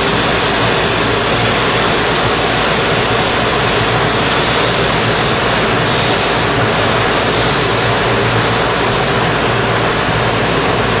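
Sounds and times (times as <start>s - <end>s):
brush sanding machine running: 0.0s - 11.0s.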